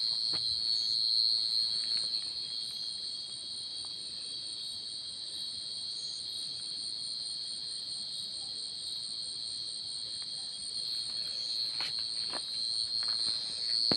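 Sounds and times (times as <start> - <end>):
cricket trilling: 0.0 - 13.9.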